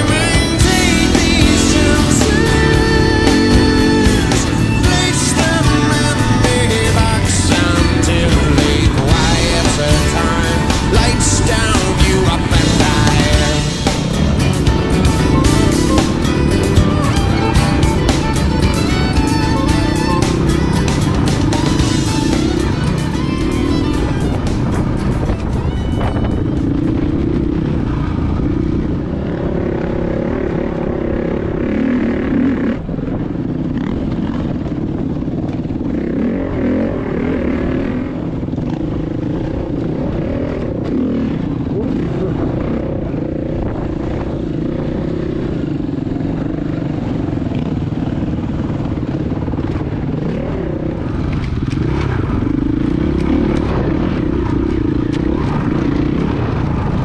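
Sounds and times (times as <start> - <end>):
clatter over rough ground: 0.0 - 57.0
dirt bike engine running: 0.0 - 57.0.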